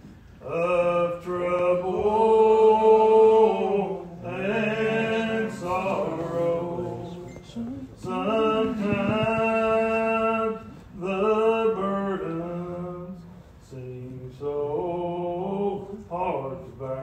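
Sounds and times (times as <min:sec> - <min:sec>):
man singing a hymn: 0:00.4 - 0:07.4, 0:08.0 - 0:17.0.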